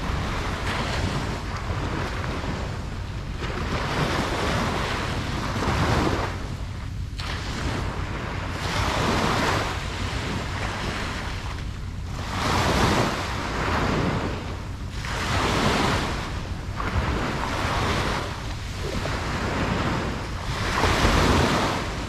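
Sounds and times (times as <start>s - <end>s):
ocean waves breaking on beach: 0.0s - 22.0s
steady low rumble: 0.0s - 22.0s.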